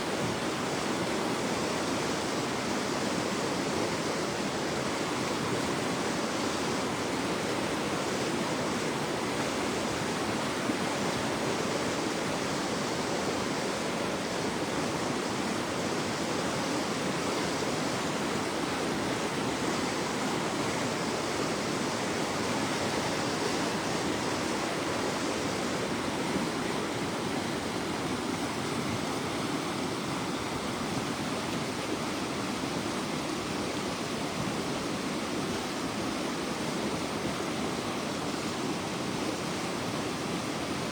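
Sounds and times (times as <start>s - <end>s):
floodwater rushing: 0.0s - 40.9s.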